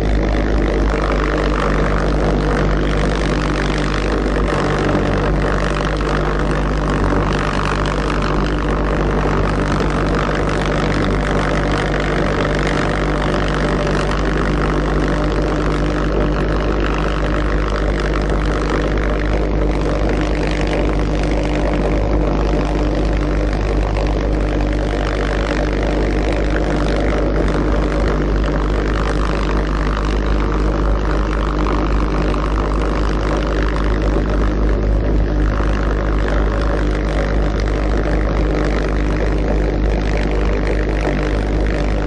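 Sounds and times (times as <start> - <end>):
pulsejet engine buzzing drone: 0.0 - 42.0.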